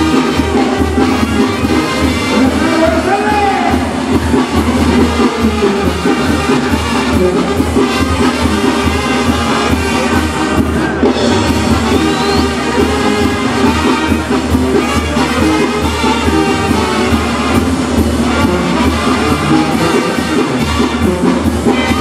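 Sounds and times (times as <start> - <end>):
brass band music: 0.0 - 22.0.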